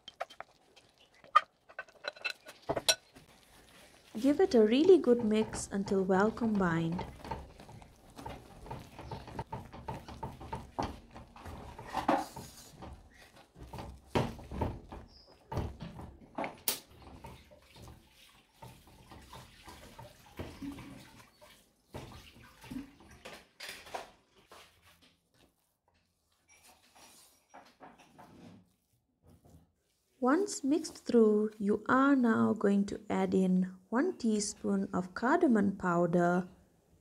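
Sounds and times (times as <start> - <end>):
wooden spoon stirring thick mixture: 0.0 - 27.8, 28.7 - 33.0.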